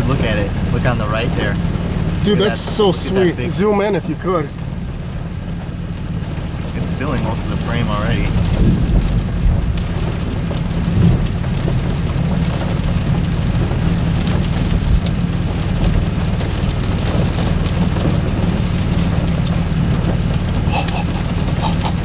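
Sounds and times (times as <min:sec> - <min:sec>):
rain: 0:00.0 - 0:22.0
wind: 0:00.0 - 0:22.0.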